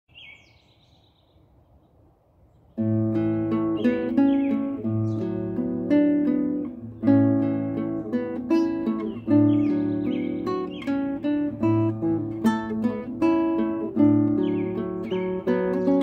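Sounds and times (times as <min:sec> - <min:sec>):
bird calling: 0:00.1 - 0:16.0
woodland ambience: 0:00.1 - 0:16.0
classical guitar playing: 0:02.8 - 0:16.0.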